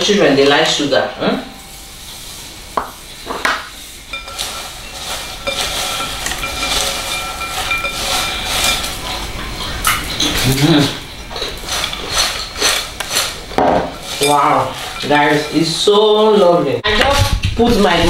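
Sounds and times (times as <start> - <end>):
popcorn rustling in a bowl: 0.0 - 18.0.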